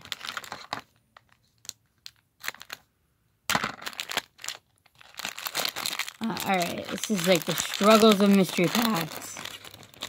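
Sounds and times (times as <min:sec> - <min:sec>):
plastic foil bag crinkling: 0:00.0 - 0:02.8, 0:03.7 - 0:10.0.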